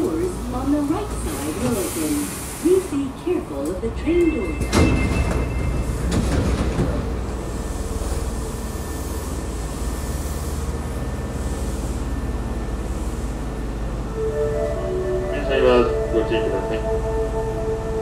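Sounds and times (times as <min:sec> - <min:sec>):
train equipment humming: 0:00.0 - 0:18.0.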